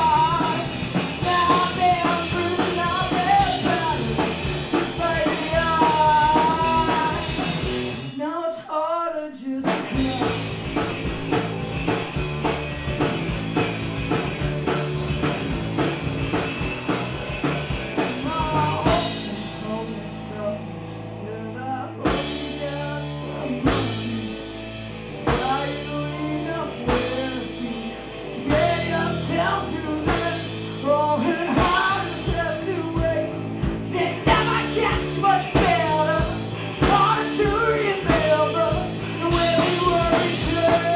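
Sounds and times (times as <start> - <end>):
drum kit: 0.0 - 8.3, 9.2 - 20.1, 22.0 - 40.9
bass guitar: 0.0 - 40.9
electric guitar: 0.0 - 40.9
lead vocals: 0.0 - 40.9.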